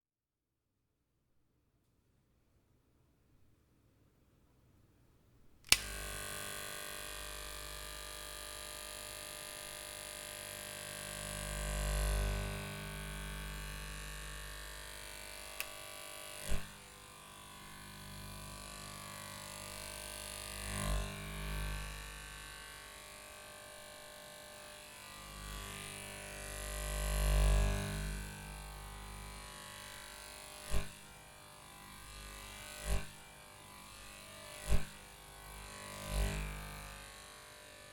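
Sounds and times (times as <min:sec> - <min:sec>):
electrical motor hum: 0:05.7 - 0:37.9.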